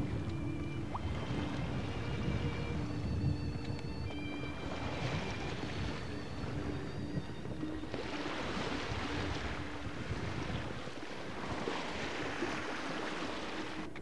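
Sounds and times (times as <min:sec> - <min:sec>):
water rushing along boat hull: 0:00.0 - 0:14.0
wind buffeting microphone: 0:00.0 - 0:14.0.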